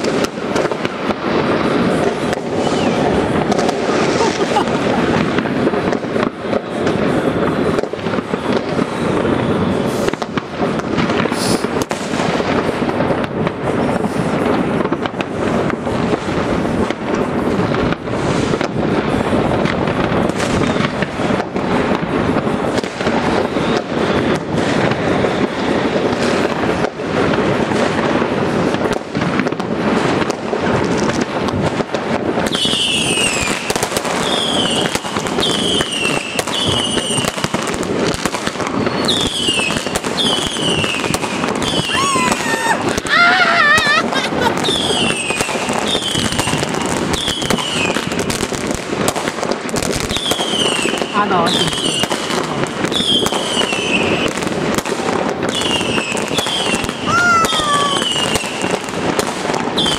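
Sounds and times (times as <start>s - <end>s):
falling firework whistles: 0.0s - 59.9s
fireworks crackling and banging: 0.0s - 59.9s.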